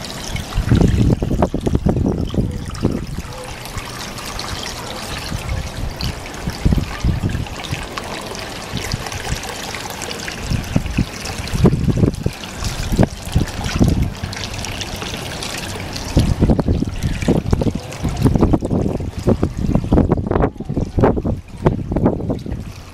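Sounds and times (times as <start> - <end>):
low water splashes: 0.0 - 22.9
water trickling: 0.0 - 22.9.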